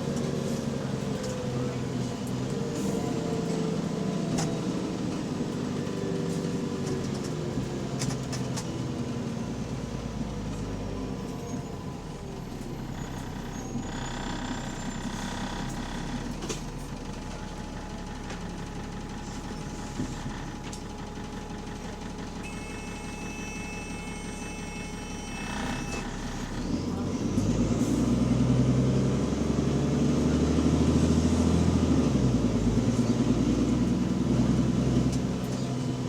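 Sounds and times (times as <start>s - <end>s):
bus engine rumble: 0.0s - 36.0s.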